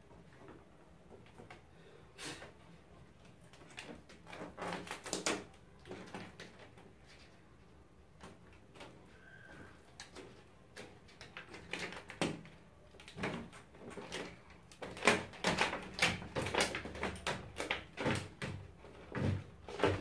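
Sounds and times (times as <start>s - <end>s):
plastic sheet crackling and rustling: 3.1s - 20.0s.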